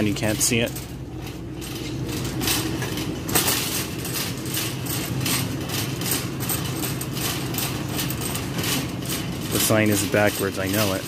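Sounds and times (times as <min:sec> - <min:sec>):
shopping cart rattling on tile: 0:00.0 - 0:11.0.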